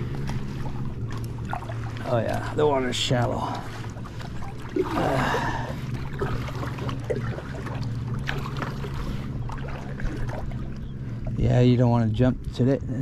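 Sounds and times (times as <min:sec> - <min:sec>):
water splashing and trickling: 0:00.0 - 0:12.6
low motor hum: 0:00.0 - 0:13.0
small splashes and knocks: 0:00.1 - 0:11.4.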